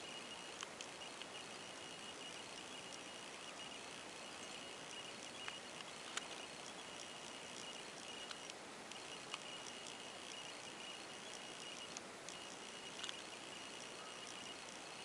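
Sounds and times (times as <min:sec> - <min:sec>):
faint steady hiss: 0:00.0 - 0:15.0
small clicks: 0:00.0 - 0:15.0
thin high-pitched whine: 0:00.0 - 0:15.0.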